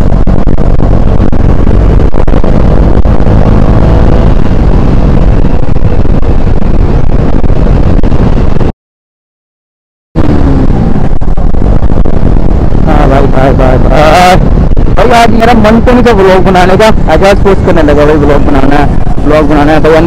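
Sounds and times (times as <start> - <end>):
motorcycle engine running: 0.0 - 8.7, 10.2 - 20.0
wind rushing over microphone: 0.0 - 8.7, 10.2 - 20.0.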